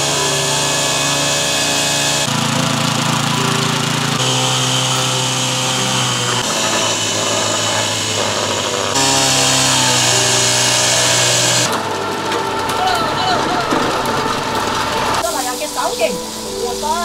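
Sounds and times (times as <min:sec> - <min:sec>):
small petrol engines running: 0:00.0 - 0:17.0.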